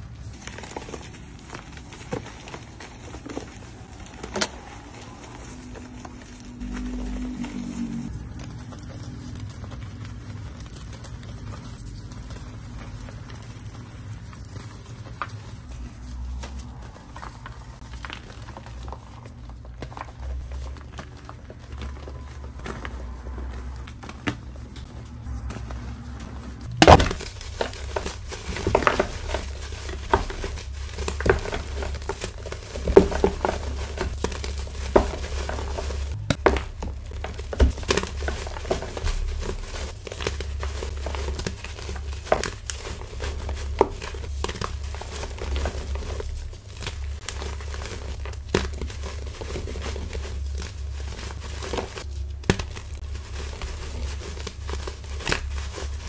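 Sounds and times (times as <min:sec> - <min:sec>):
chalk chunks cracking: 0:00.0 - 0:56.0
chalk crunching and crumbling: 0:00.0 - 0:56.0.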